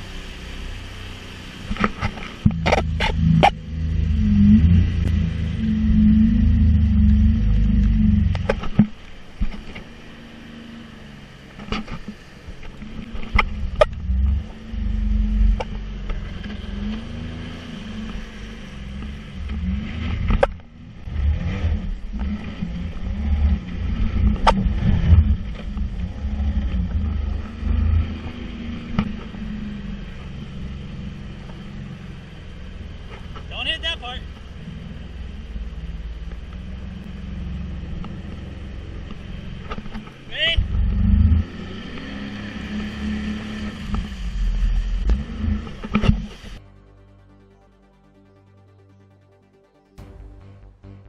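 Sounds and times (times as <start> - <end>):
jet ski engine revving: 0.0 - 46.6
heavy low rumble: 0.0 - 51.0.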